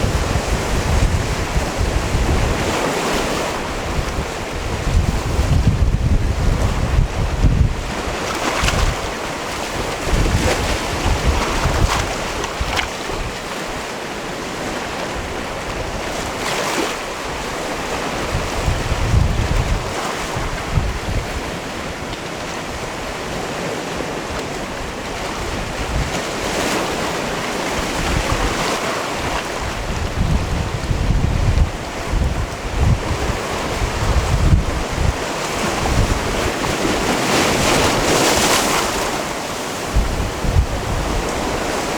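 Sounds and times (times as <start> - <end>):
wind rumbling on microphone: 0.0 - 13.9, 14.5 - 41.9
sea waves breaking on rocks: 0.0 - 41.9.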